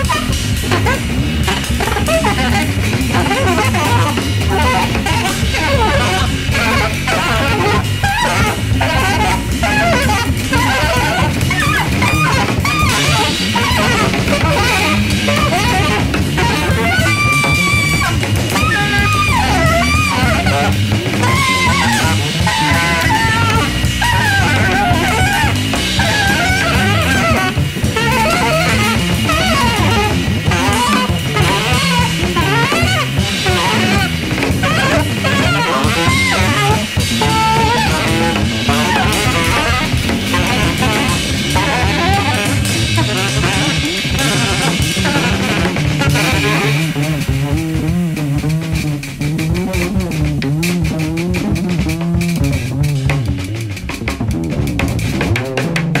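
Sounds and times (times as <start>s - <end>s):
busy drums: 0.0s - 56.0s
electric bass: 0.0s - 56.0s
reed instrument lead: 0.0s - 56.0s.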